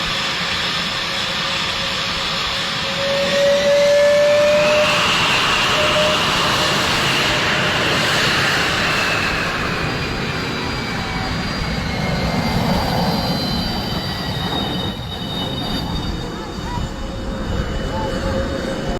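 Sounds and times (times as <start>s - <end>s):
jet engine whine: 0.0s - 18.9s.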